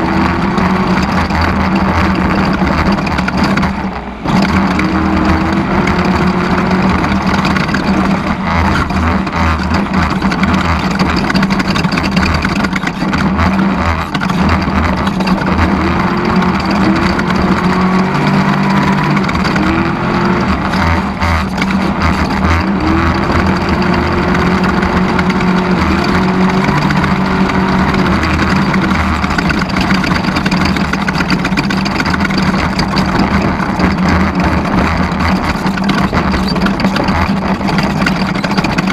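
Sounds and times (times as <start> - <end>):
vehicle engine running under load: 0.0 - 38.9.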